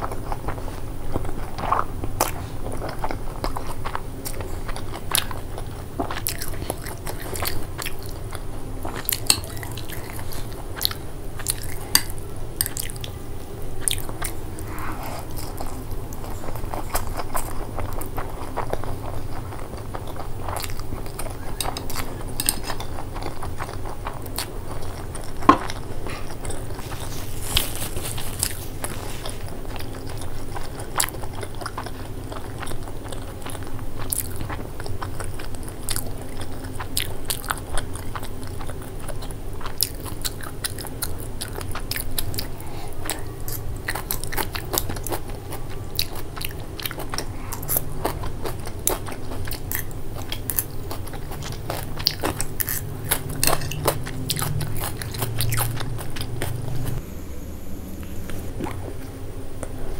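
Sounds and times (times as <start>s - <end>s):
person chewing wetly: 0.0s - 13.2s, 13.8s - 57.0s.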